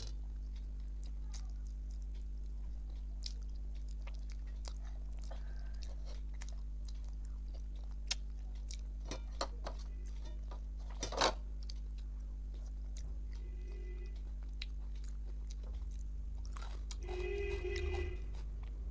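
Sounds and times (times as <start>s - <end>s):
wet mouth chewing clicks: 0.0s - 9.0s, 11.6s - 18.8s
steady low hum: 0.0s - 18.9s.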